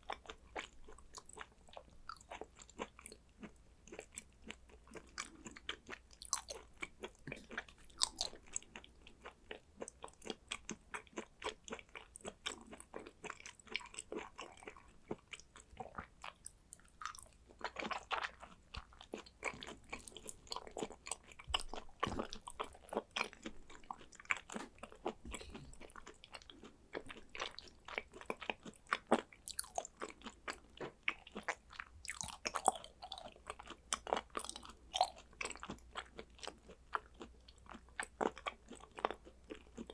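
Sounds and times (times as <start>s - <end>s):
chewing mouth clicks and smacks: 0.0s - 39.9s.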